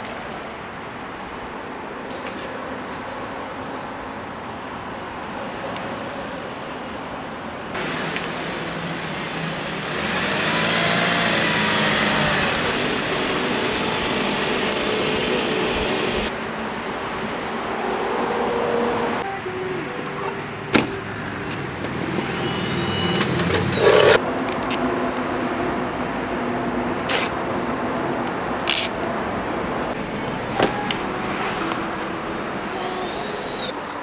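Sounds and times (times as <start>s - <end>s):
passing vehicles: 0.0s - 34.0s.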